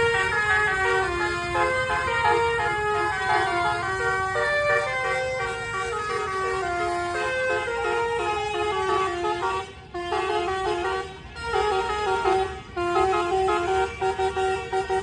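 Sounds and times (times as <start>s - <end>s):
multi-tone musical bus horn: 0.0s - 15.0s.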